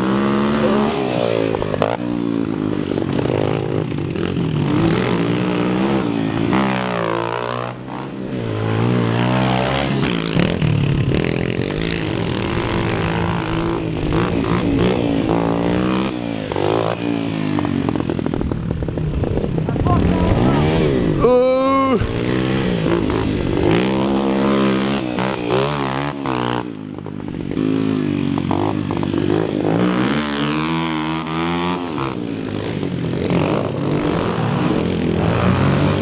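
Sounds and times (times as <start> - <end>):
pit bike engines revving: 0.0 - 36.0.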